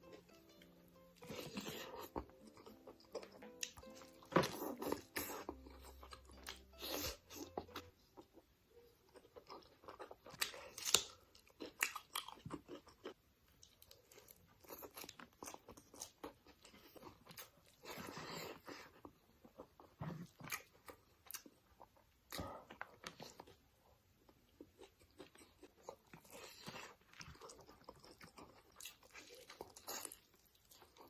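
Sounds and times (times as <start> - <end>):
crunchy food being chewed: 0.0 - 31.0.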